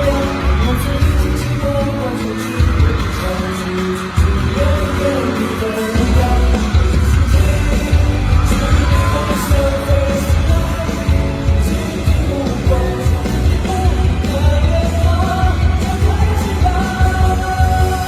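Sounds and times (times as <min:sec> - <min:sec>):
loud backing music with heavy bass: 0:00.0 - 0:18.0
male group singing: 0:00.0 - 0:18.0.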